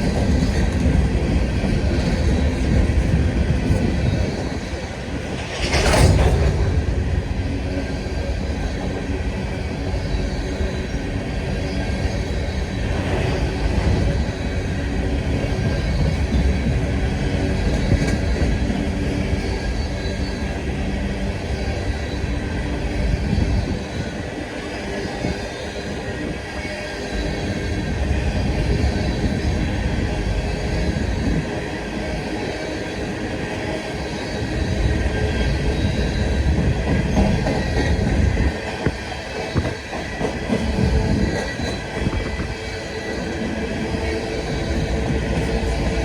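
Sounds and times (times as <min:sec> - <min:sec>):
freight train rumble and clatter: 0:00.0 - 0:46.0.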